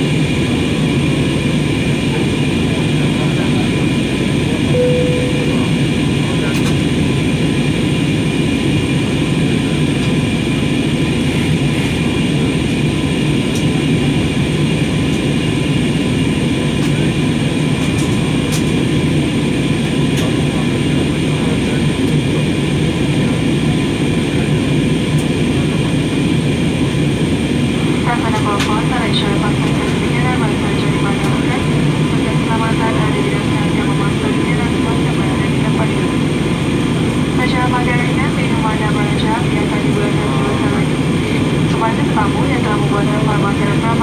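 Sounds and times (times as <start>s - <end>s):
airliner cabin rumble: 0.0s - 44.0s
faint steady whines: 0.0s - 44.0s.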